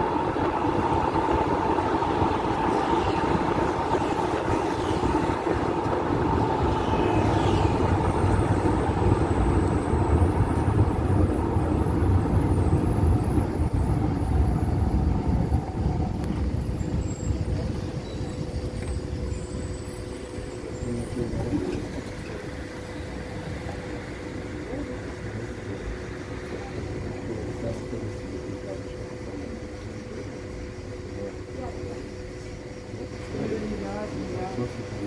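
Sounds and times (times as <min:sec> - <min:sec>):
tram rumbling on rails: 0:00.0 - 0:35.0.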